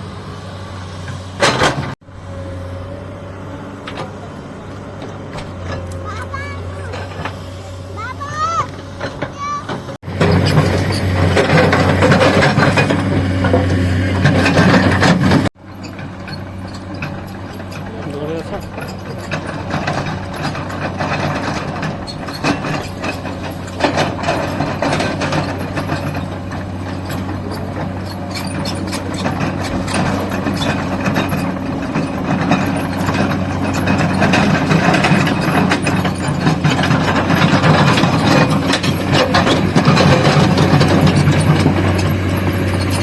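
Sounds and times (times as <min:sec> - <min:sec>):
excavator diesel engine running: 0:00.0 - 0:43.0
metal clanks digging rock: 0:01.0 - 0:02.0, 0:03.8 - 0:07.6, 0:08.2 - 0:43.0.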